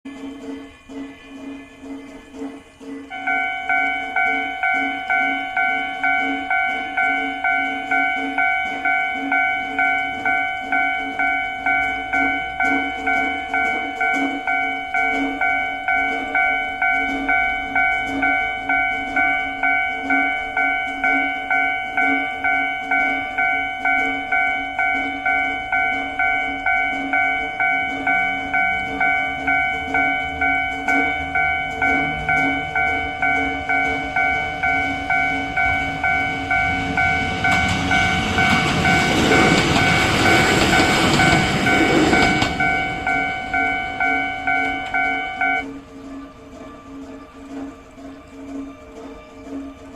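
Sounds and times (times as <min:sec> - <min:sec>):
level-crossing warning bell ringing: 0:00.0 - 0:49.9
train rumble: 0:00.1 - 0:49.9.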